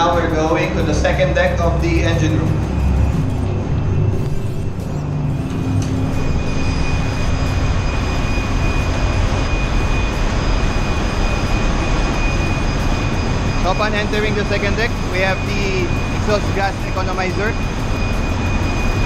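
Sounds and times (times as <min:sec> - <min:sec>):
high steady whine: 0:00.0 - 0:19.0
ship engine room roar: 0:00.0 - 0:19.0.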